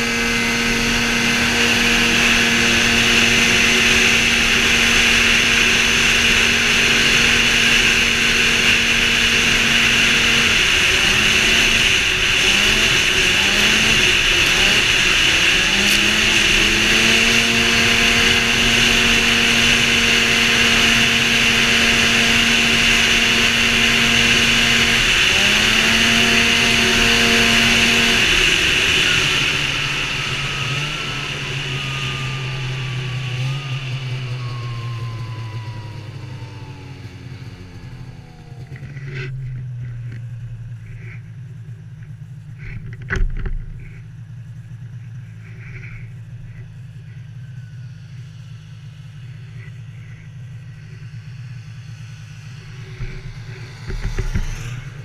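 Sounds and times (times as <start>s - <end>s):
snowmobile engine: 0.0s - 55.0s.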